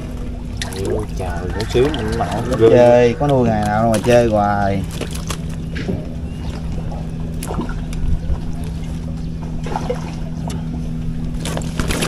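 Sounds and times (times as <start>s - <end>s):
water trickling: 0.0s - 10.7s
motor humming: 0.0s - 12.0s.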